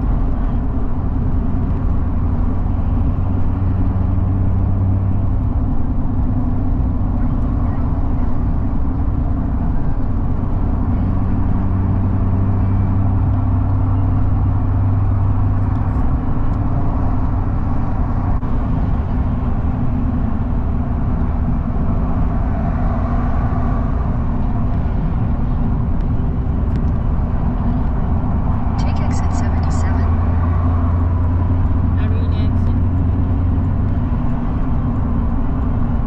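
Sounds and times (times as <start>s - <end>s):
car road and engine rumble: 0.0s - 36.0s.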